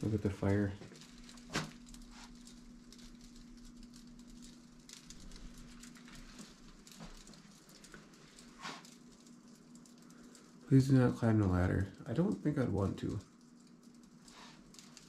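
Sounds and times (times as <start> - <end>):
faint steady hum: 0.0 - 15.0
faint ticks and taps: 0.4 - 15.0.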